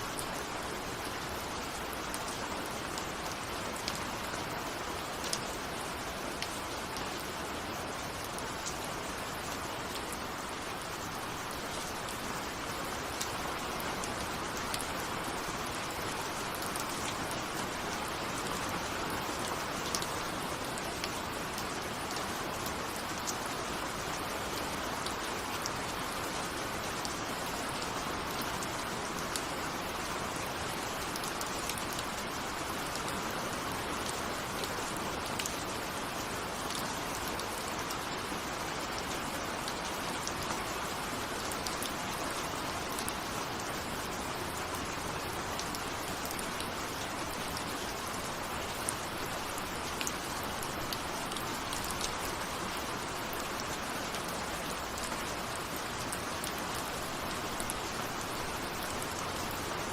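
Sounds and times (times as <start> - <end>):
rain pattering on a window: 0.0 - 59.9.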